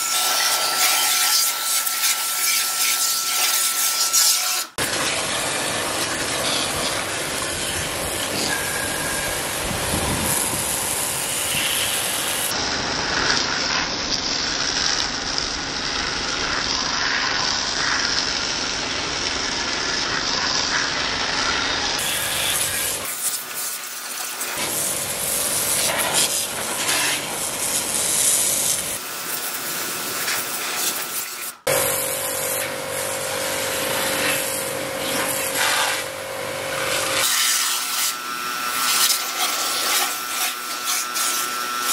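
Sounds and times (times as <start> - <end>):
pressure washer spraying metal: 0.0 - 41.9.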